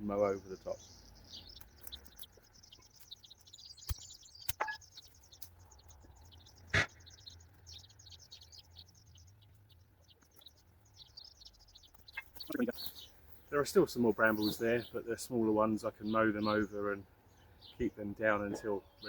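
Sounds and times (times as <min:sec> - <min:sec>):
high chirping: 0:00.0 - 0:19.0.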